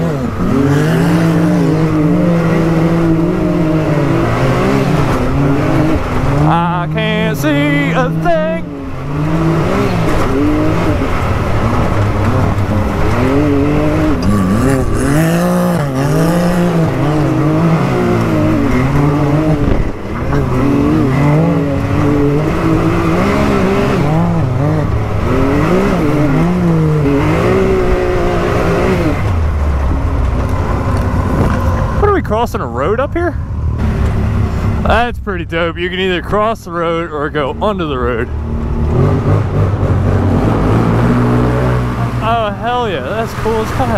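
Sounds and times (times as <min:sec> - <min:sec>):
engine revving: 0:00.0 - 0:43.9.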